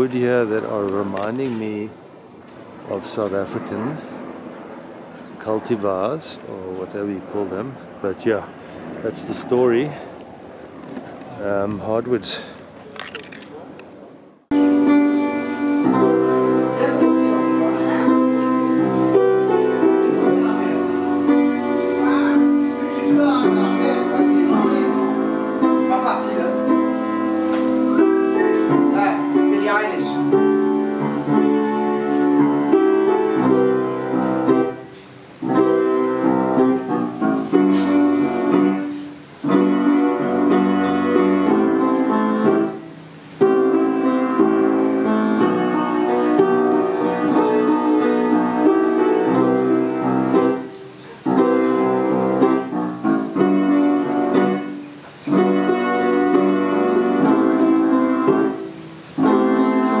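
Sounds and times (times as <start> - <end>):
piano music: 0.0 - 12.4, 14.4 - 60.0.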